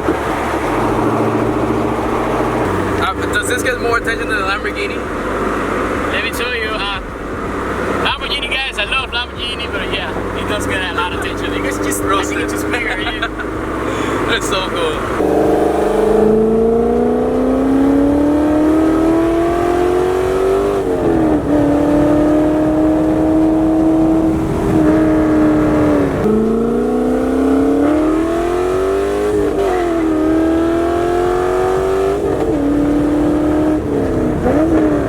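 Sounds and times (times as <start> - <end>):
car exhaust accelerating: 0.0 - 35.0.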